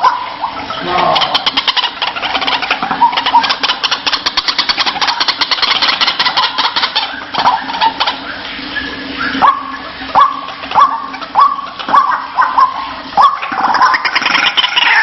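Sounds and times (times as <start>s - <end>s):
bird calling with harsh rattling notes: 0.0s - 15.0s.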